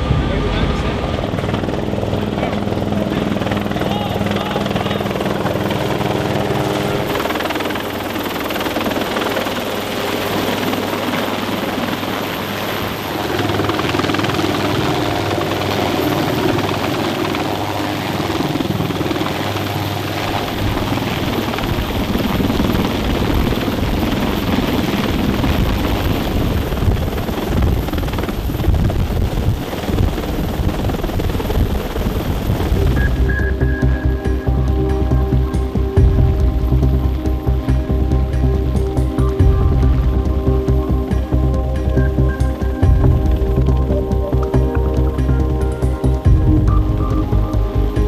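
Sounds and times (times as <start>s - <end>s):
helicopter rotor and turbine noise: 0.0s - 48.0s.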